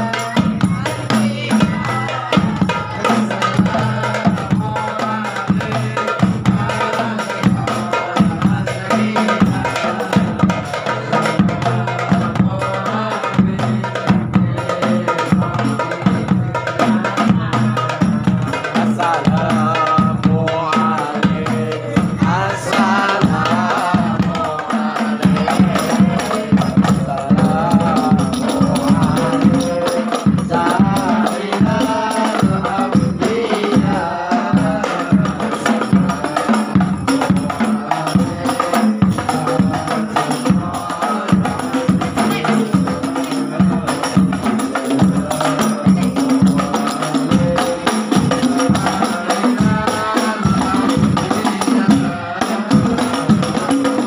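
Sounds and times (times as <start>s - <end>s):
frame drums playing: 0.0s - 54.0s
voices singing: 0.0s - 54.0s.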